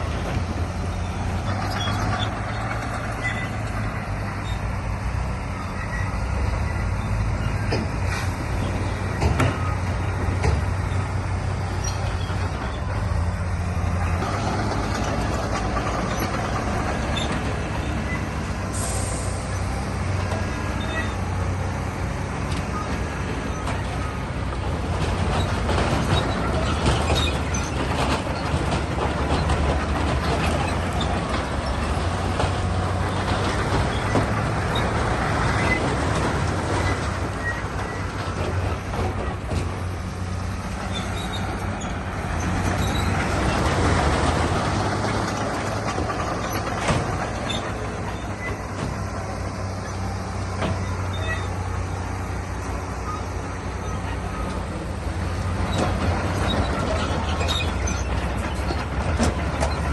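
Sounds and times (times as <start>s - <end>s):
diesel engine running under load: 0.0s - 59.9s
steel tracks and rock clattering: 0.0s - 59.9s.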